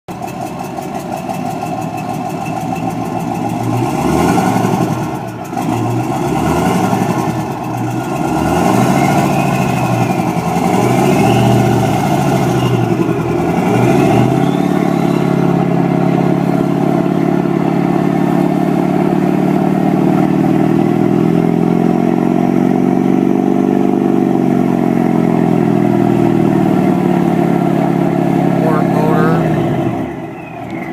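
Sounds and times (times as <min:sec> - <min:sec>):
boat engine running: 0:00.1 - 0:30.9.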